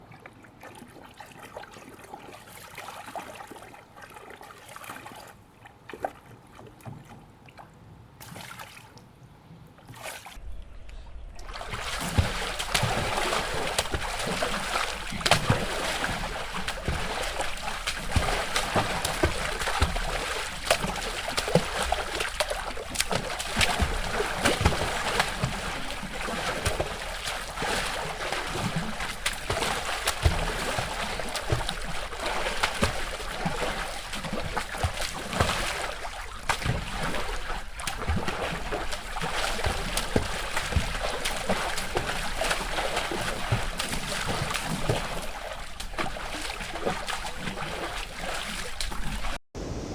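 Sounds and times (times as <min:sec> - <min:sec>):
water splashing and sloshing: 0:00.0 - 0:49.9.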